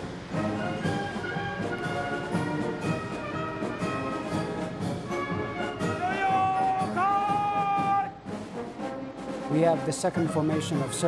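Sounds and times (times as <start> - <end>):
military brass band music: 0.0 - 11.0.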